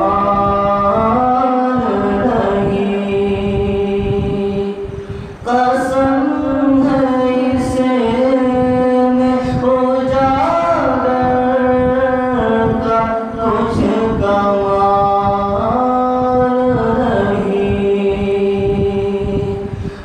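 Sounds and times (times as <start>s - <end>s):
person singing a cappella: 0.0s - 20.0s.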